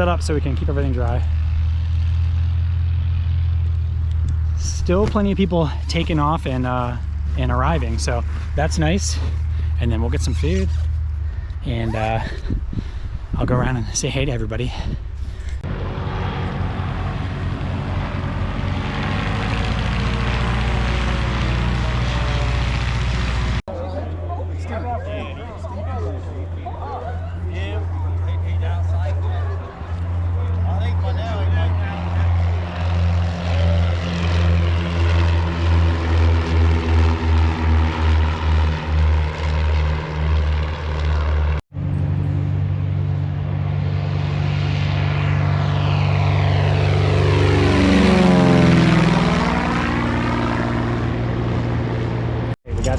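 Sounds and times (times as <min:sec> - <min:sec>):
propeller airplane engine: 0:00.0 - 0:52.9.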